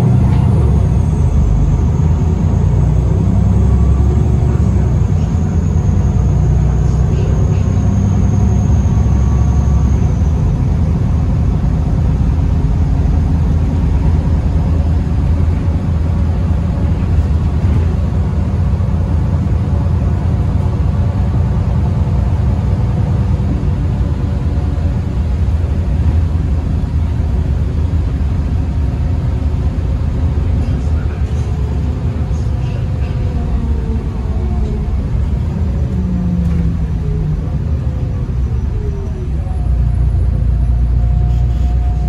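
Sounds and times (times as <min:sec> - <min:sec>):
bus diesel engine rumble: 0:00.0 - 0:42.0
road noise: 0:00.0 - 0:42.0.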